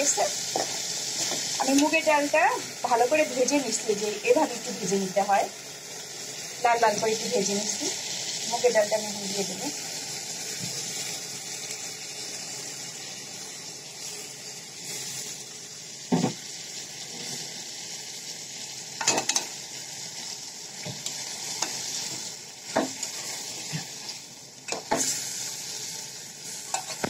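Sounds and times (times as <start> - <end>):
curry sizzling in a pot: 0.0 - 27.0.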